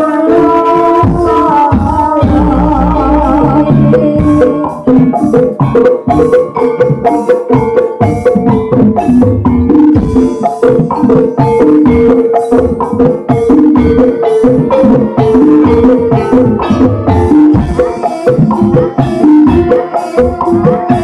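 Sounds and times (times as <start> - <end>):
person singing: 0.0 - 7.3, 9.6 - 21.0
drum strokes: 0.0 - 21.0.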